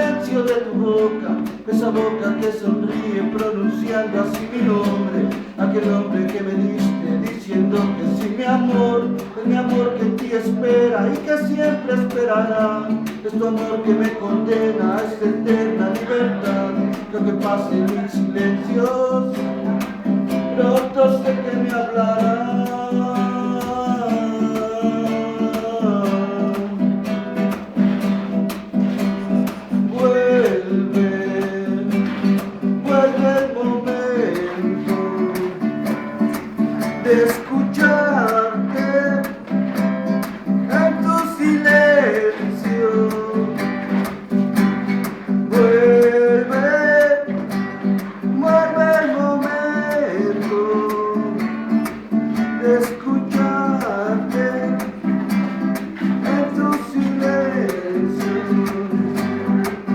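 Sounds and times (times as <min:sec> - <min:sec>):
acoustic guitar strumming: 0:00.0 - 0:59.9
guitar melody line: 0:00.0 - 0:59.9.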